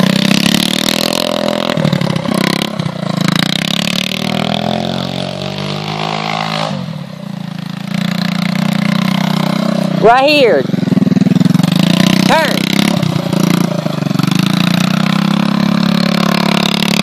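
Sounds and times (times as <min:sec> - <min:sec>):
small atv engine revving: 0:00.0 - 0:17.0.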